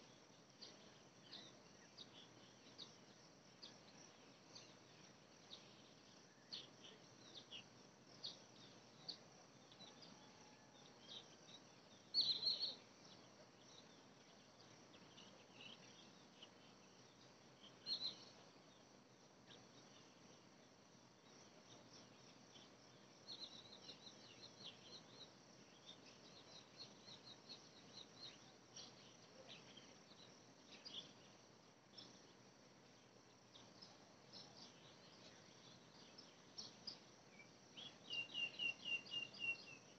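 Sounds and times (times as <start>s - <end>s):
birds and insects chirping: 0.0s - 39.9s.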